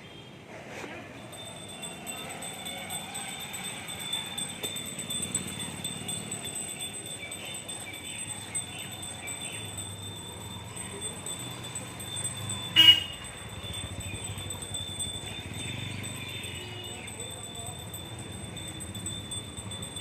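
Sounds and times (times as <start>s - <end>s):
sharp clink with ringing tone: 1.3s - 20.0s.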